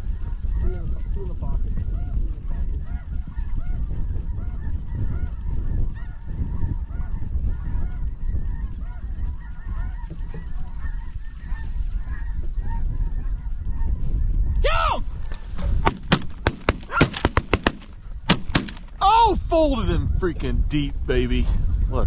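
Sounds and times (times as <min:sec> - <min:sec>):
geese honking: 0:00.0 - 0:19.4
wind on microphone: 0:00.0 - 0:22.0.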